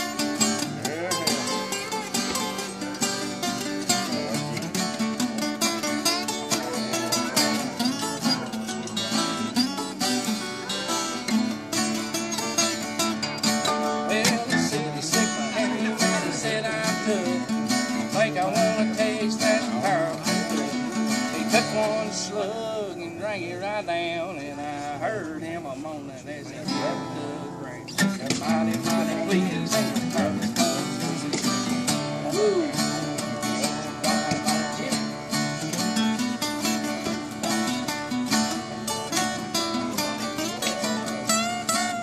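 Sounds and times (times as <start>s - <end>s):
acoustic guitars playing country music: 0.0s - 42.0s.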